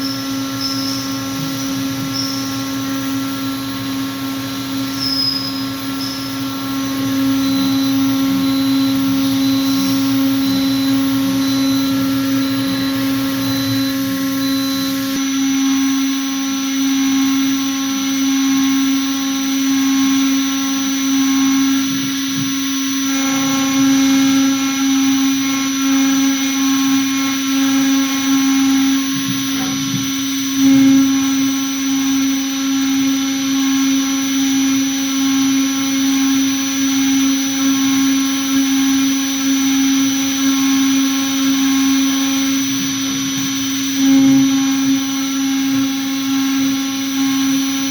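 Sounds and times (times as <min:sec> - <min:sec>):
router spindle whine: 0:00.0 - 0:47.9.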